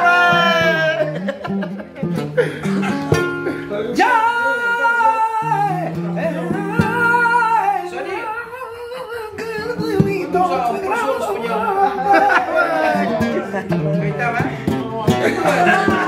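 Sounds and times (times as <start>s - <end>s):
man singing: 0.0s - 1.3s, 2.9s - 16.0s
plucked guitar: 0.0s - 16.0s.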